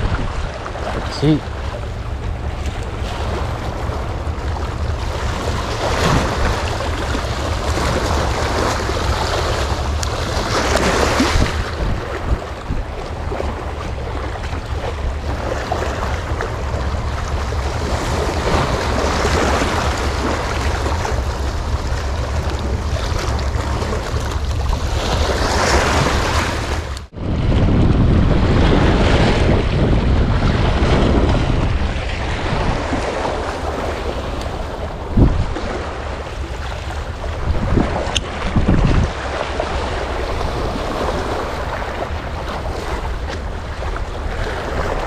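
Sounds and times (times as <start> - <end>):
sea waves washing: 0.0 - 45.0
wind buffeting microphone: 0.0 - 45.0.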